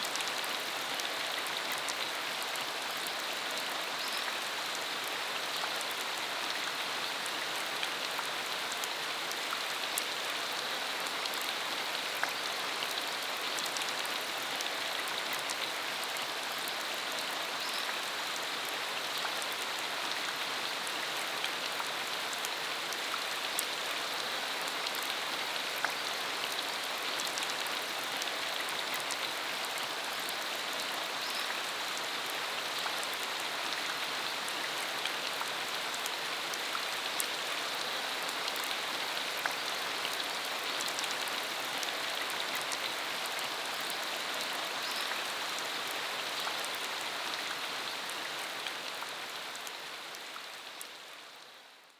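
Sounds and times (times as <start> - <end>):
rain falling on dirt road: 0.0 - 51.9.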